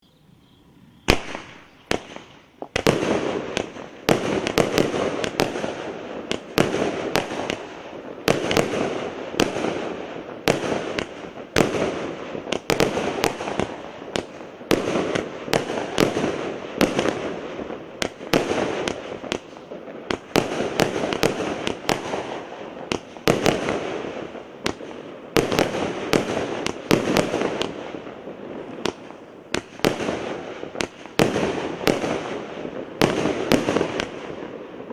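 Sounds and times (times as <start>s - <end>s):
fireworks hissing crackle: 0.7s - 34.9s
fireworks launch and burst bangs: 1.0s - 34.9s.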